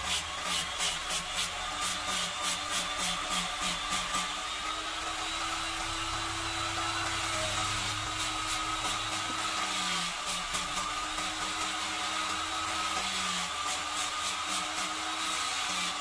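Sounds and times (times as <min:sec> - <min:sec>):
angle grinder sanding wood: 0:00.0 - 0:16.0.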